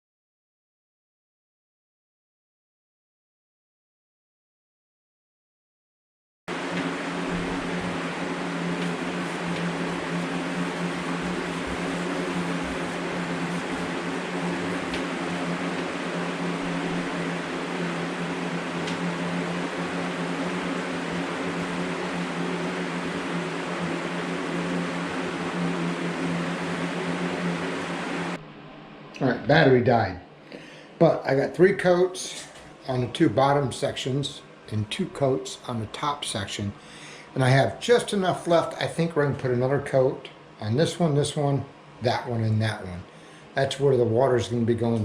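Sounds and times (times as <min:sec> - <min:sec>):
electric fan running: 0:06.5 - 0:45.0.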